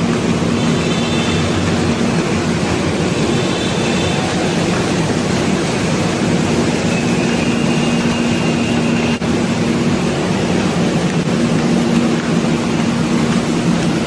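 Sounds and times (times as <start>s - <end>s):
vehicle rumble and hiss: 0.0s - 14.0s.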